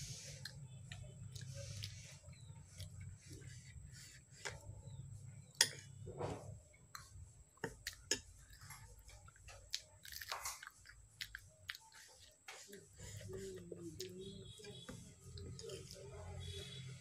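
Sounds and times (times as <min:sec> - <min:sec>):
person chewing crunchy chickpeas: 0:00.2 - 0:06.0, 0:06.9 - 0:16.5.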